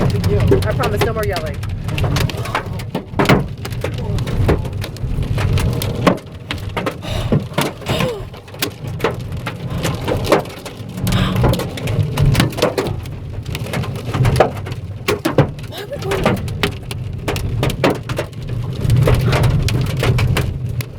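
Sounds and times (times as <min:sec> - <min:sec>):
hailstones hitting a car: 0:00.0 - 0:20.9
low rumble from car: 0:00.0 - 0:20.9.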